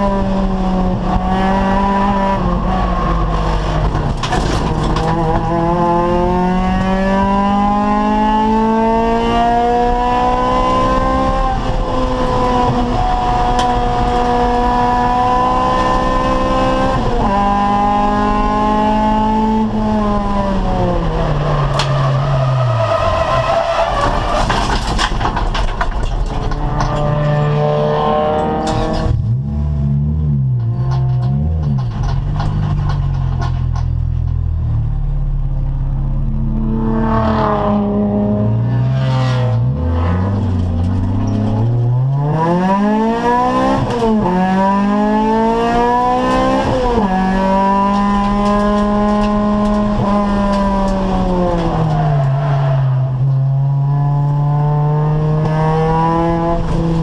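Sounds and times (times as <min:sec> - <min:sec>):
race car engine revving: 0:00.0 - 0:23.4, 0:26.3 - 0:32.5, 0:35.0 - 0:57.0.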